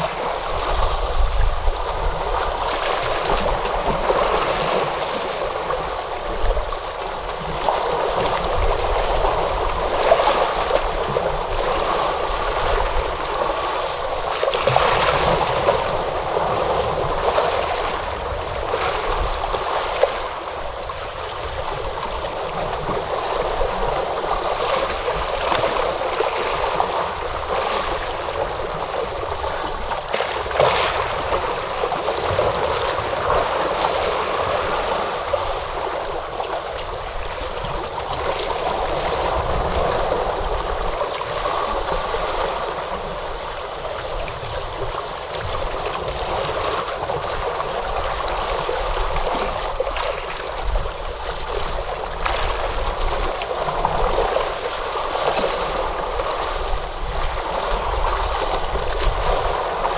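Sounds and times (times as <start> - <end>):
ocean waves washing on shore: 0.0 - 59.9
small water splashes: 0.0 - 59.9.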